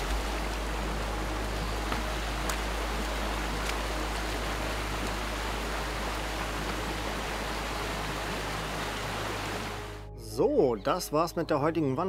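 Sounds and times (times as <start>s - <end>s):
water rushing: 0.0s - 10.1s.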